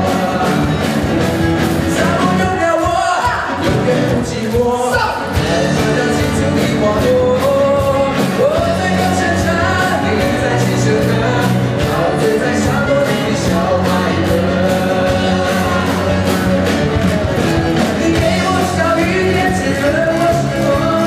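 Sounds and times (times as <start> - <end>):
drum beat: 0.0 - 21.0
electric guitar: 0.0 - 21.0
person singing lead vocals: 0.0 - 21.0
rock band playing: 0.0 - 21.0.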